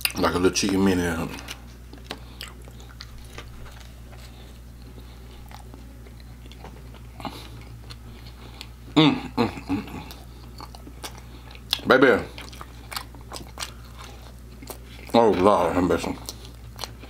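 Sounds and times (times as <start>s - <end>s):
chewing crunchy food: 0.0s - 17.0s
closed-mouth hum: 0.0s - 17.0s.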